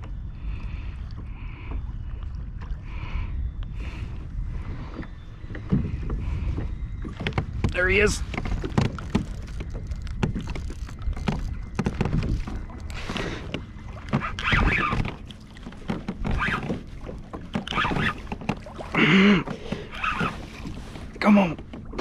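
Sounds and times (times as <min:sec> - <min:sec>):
water splashing against kayak hull: 0:00.0 - 0:22.0
wind rumble on microphone: 0:00.0 - 0:22.0.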